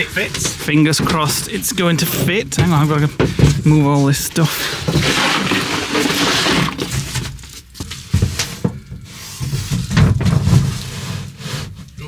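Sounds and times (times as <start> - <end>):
plywood scraping and rubbing: 0.0 - 12.0.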